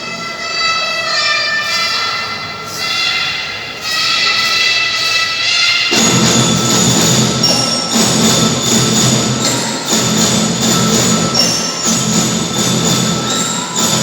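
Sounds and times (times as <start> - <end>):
bell lyres playing melody: 1.6 - 14.0
steady drumming: 1.7 - 14.0.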